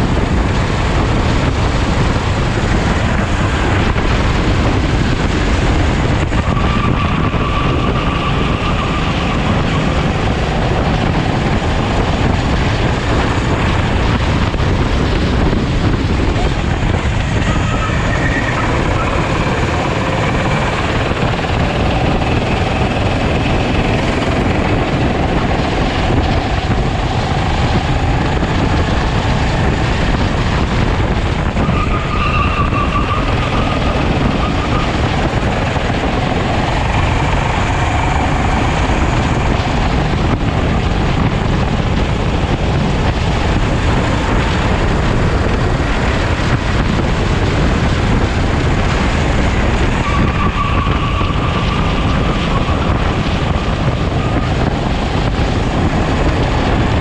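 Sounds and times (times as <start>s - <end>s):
kart engine revving: 0.0s - 57.0s
wind noise on microphone: 0.0s - 57.0s.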